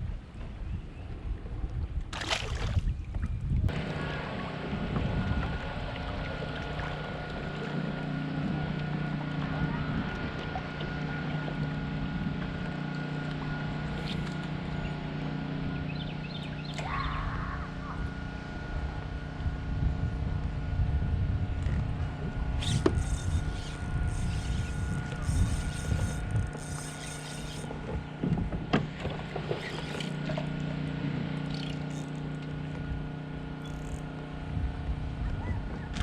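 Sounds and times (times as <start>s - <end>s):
boat motor humming: 0.0s - 36.0s.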